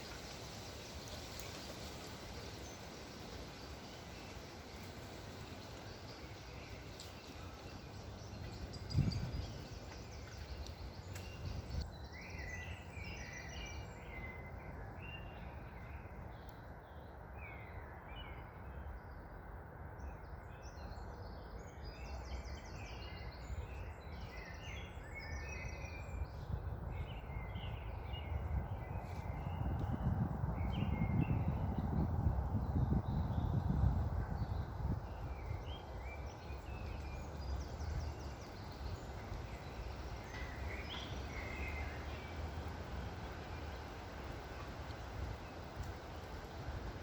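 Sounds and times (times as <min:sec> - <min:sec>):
low rush of wind: 0:00.0 - 0:47.0
songbirds chirping: 0:00.0 - 0:47.0.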